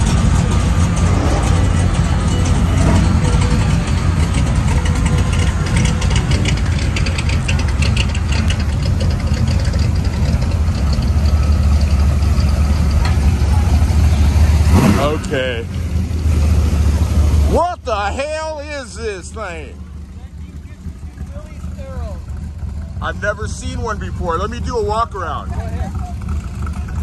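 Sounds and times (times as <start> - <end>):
car engine low rumble: 0.0 - 27.0.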